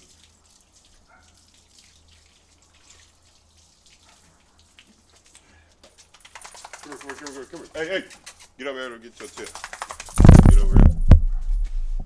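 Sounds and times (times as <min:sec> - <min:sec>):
hose water running onto concrete: 0:00.0 - 0:10.9.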